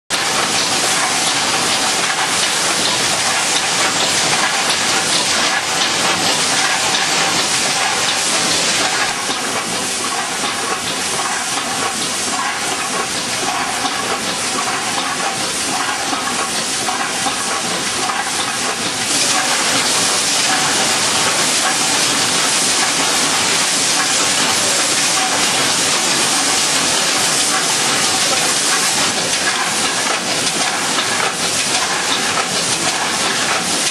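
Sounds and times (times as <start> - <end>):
packaging machine running: 0.1 - 33.9.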